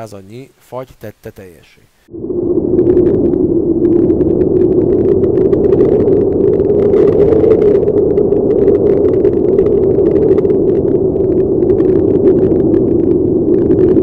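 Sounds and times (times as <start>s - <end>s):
dense crackling: 2.0s - 14.0s
loud rumbling drone: 2.1s - 14.0s.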